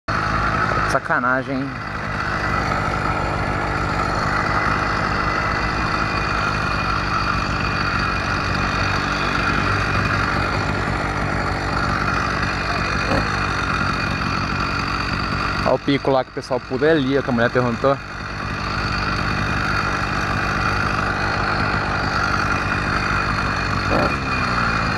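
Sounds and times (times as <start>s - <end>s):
small engine running: 0.1s - 24.9s.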